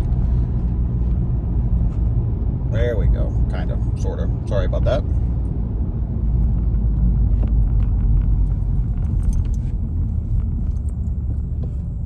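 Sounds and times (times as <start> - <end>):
car exhaust low rumble: 0.0 - 12.0.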